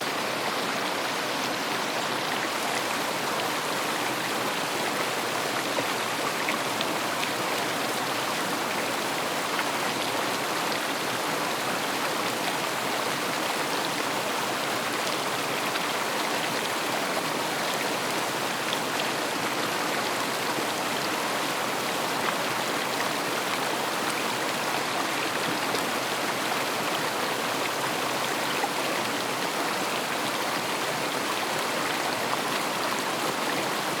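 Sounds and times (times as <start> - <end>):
river water rushing and splashing: 0.0 - 34.0.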